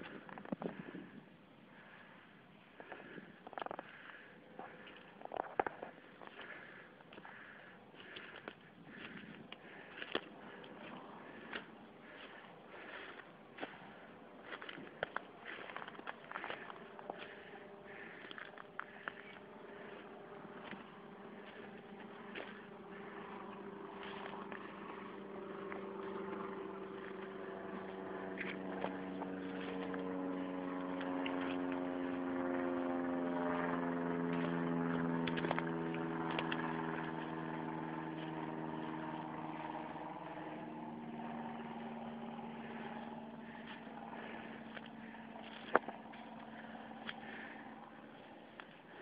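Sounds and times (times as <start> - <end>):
distant engine passing by: 0.0 - 49.0.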